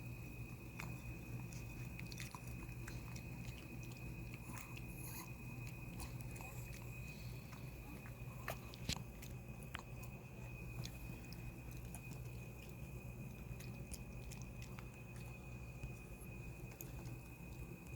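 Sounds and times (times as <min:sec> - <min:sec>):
dog chewing: 0:00.0 - 0:17.9
faint high whine: 0:00.0 - 0:17.9.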